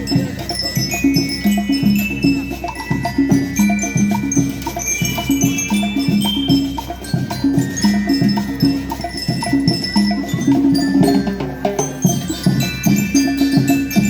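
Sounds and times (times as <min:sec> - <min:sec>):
bell lyres ringing a melody: 0:00.0 - 0:14.0
steady drum beat: 0:00.0 - 0:14.0.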